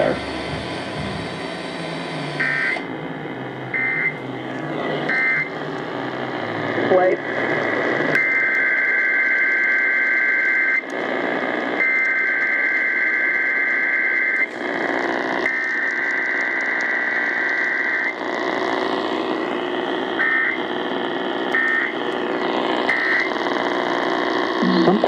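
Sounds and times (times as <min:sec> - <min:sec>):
radio static: 0:00.0 - 0:25.0.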